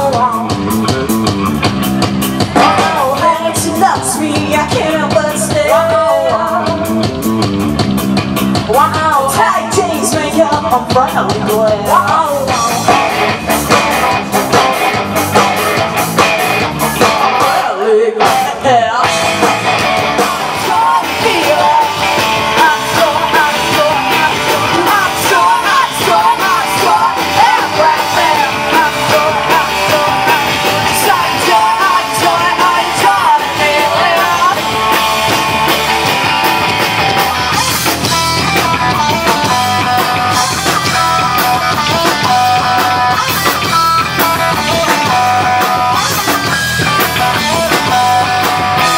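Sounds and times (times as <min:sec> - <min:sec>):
person singing: 0:00.0 - 0:00.9, 0:01.7 - 0:07.2, 0:08.6 - 0:14.7, 0:16.6 - 0:36.0, 0:36.8 - 0:48.9
rock band playing live: 0:00.0 - 0:48.9.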